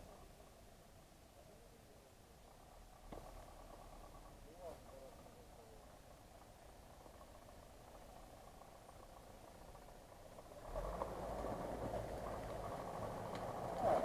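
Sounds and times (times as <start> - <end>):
truck engine running: 2.4 - 14.0.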